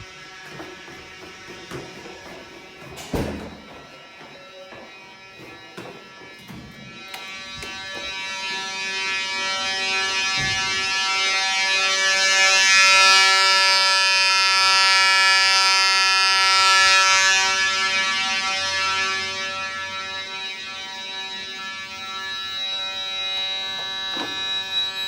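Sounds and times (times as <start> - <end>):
fire alarm horn buzzing: 0.0 - 25.0.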